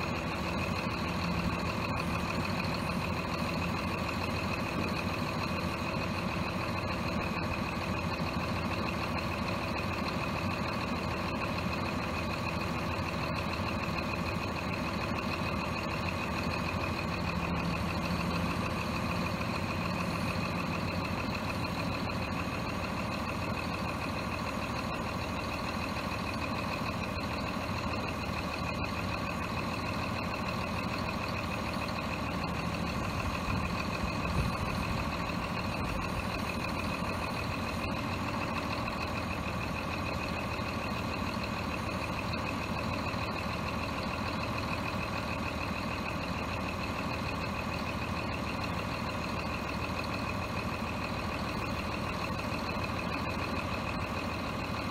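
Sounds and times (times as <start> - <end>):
diesel truck engine running: 0.0 - 54.9
hydraulic crane whine: 0.0 - 54.9.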